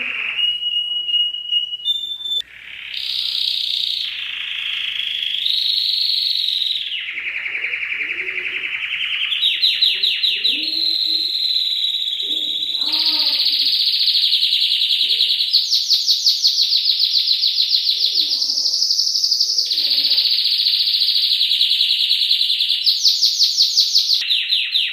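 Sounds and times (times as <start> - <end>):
canary singing trills: 0.0 - 24.9.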